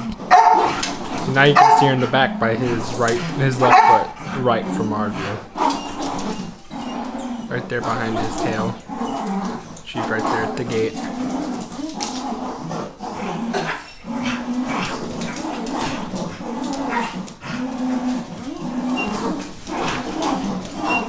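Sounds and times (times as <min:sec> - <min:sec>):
dog growling: 0:00.0 - 0:21.0.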